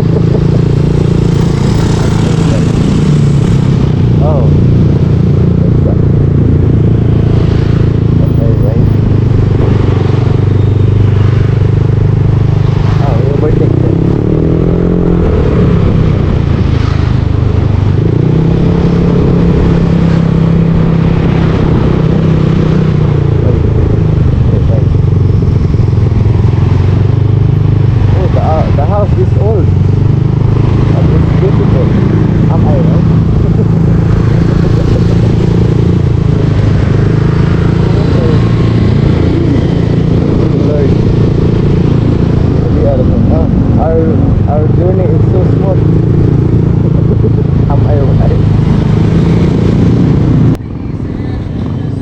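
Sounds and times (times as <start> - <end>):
scooter engine running: 0.0 - 19.4, 20.0 - 52.0.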